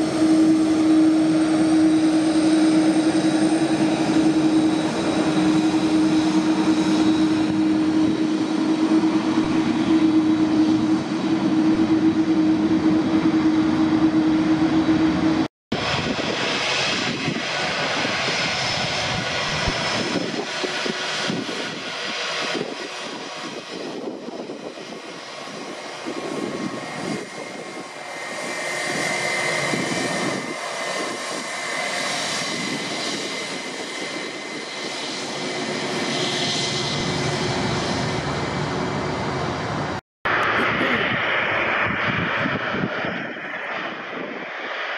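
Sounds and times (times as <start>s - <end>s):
high engine whine: 0.0s - 44.9s
jet engines running: 0.0s - 44.9s.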